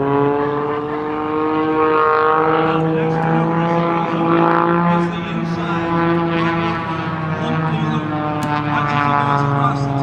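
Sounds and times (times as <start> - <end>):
aircraft engine drone overhead: 0.0 - 10.0.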